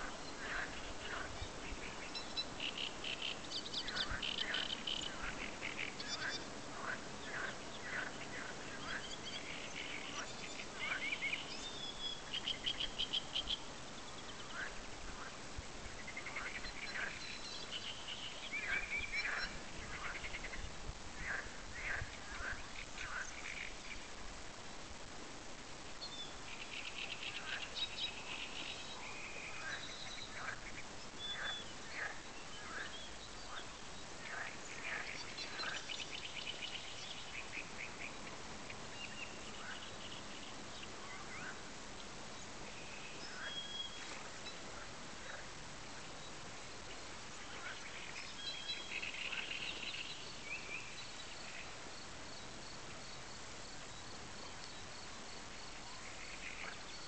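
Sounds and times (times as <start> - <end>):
wild birds chirping and chattering: 0.0 - 24.7, 25.8 - 57.0
steady outdoor hiss: 0.0 - 57.0.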